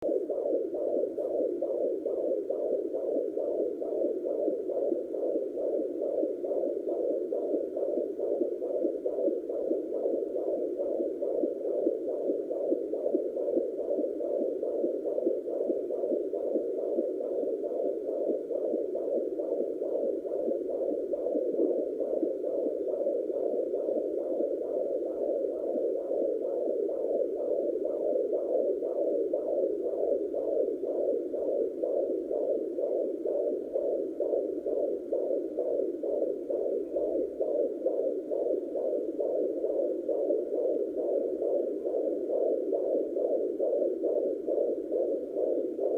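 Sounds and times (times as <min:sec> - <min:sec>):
fetal heartbeat through doppler: 0:00.0 - 0:45.9.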